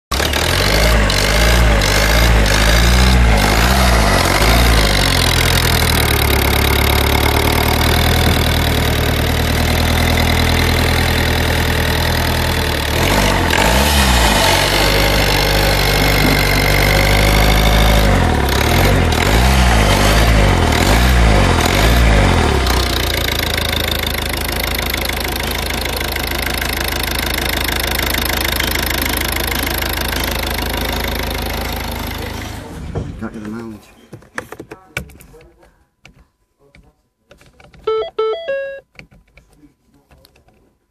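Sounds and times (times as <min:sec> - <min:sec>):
diesel engine revving and idling: 0:00.1 - 0:33.4.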